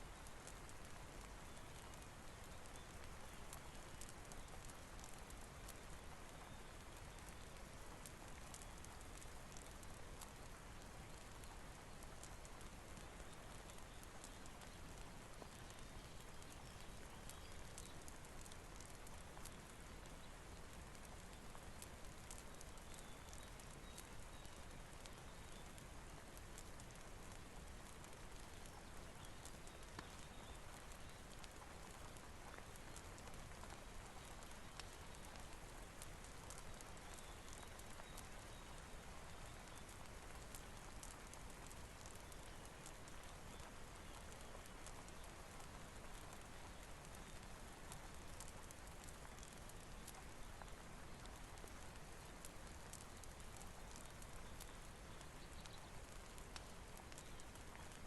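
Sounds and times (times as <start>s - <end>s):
faint steady rain: 0.0s - 58.0s
wood fire crackling: 0.0s - 58.0s.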